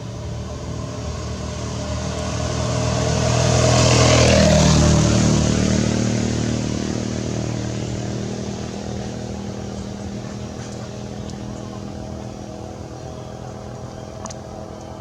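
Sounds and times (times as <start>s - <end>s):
motor vehicle passing by: 0.0s - 15.0s.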